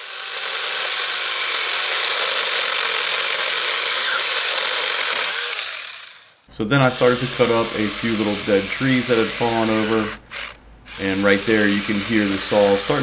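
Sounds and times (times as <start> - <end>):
chainsaw cutting branch: 0.0 - 6.4, 7.0 - 13.0.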